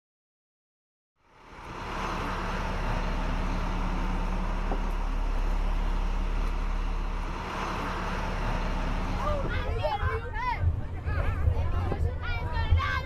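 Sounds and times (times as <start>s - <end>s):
bus engine running: 1.2s - 13.0s
road noise: 1.2s - 13.0s.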